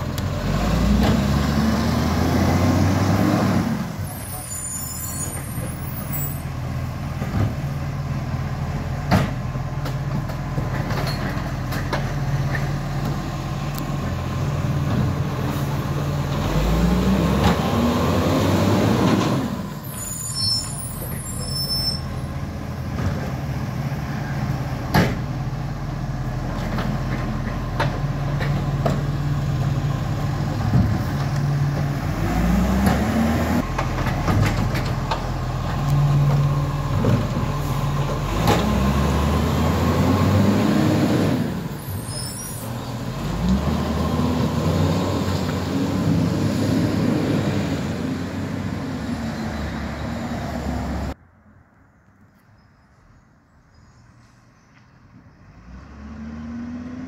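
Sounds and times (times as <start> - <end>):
diesel engine running and revving: 0.0 - 19.9, 20.8 - 51.2, 55.4 - 57.0.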